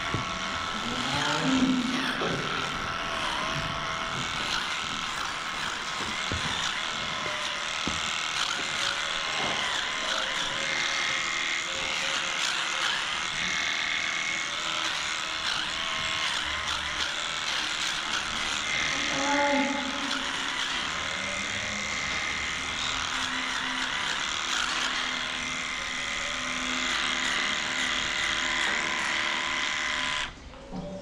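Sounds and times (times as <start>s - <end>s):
electric clippers humming: 0.0s - 30.4s.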